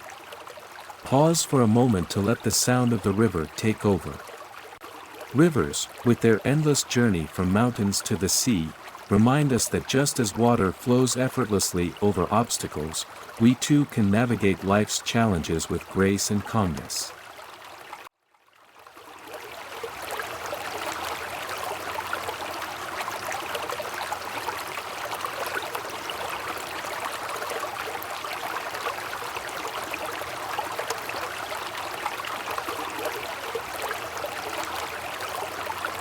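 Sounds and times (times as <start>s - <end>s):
river water flowing: 0.0s - 36.0s.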